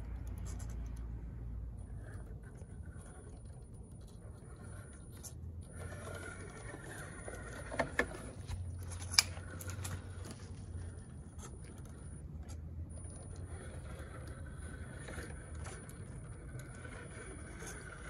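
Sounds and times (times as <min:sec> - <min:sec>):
electric motor hum and whine: 0:00.0 - 0:18.0.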